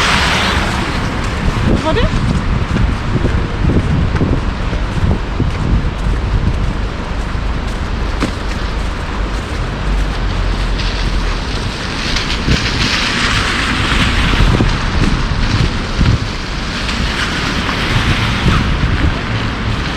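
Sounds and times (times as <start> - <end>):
traffic rumble: 0.0 - 19.9
wind on microphone: 0.0 - 19.9.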